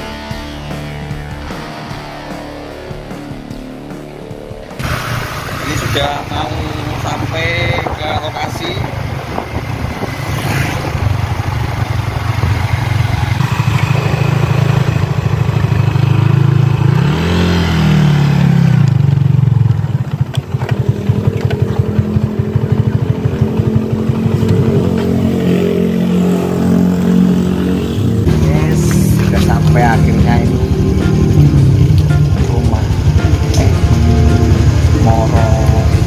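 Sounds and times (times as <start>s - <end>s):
small motorcycle engine running: 4.8s - 36.0s.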